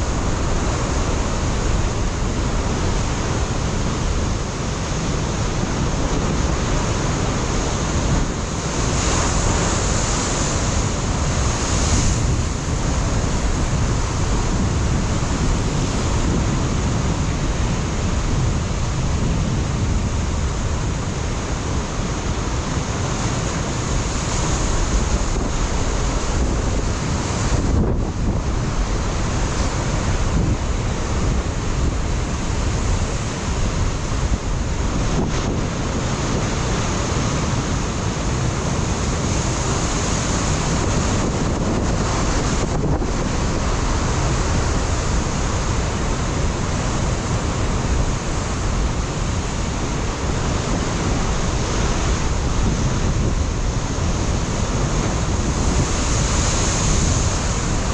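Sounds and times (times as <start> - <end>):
ocean surf breaking on rocks: 0.0 - 57.9
wind rumble on microphone: 0.0 - 57.9.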